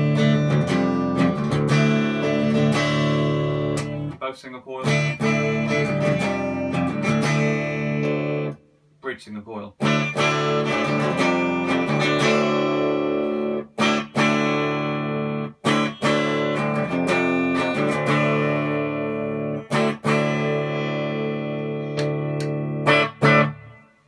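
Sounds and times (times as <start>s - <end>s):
clean electric guitar chords strummed: 0.0s - 4.2s, 4.8s - 8.6s, 9.8s - 24.0s.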